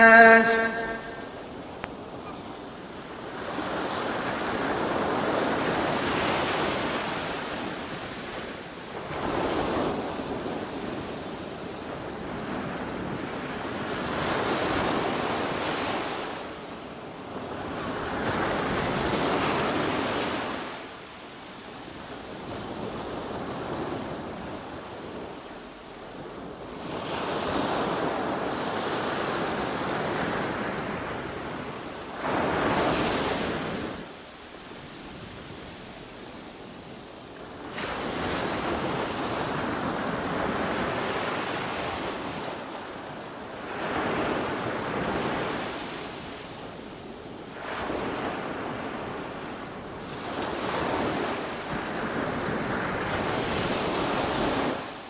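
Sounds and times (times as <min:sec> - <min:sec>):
ocean waves washing in: 0:00.0 - 0:46.3.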